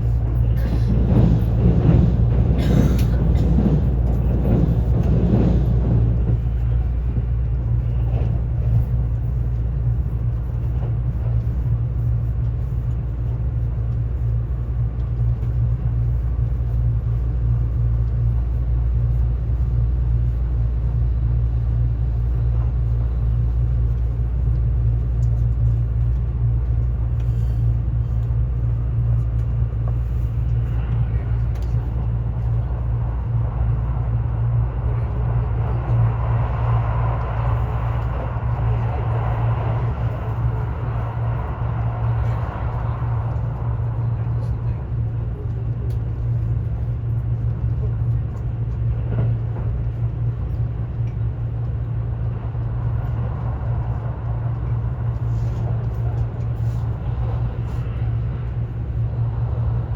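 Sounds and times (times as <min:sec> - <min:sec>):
train rumbling at speed: 0:00.0 - 0:59.9.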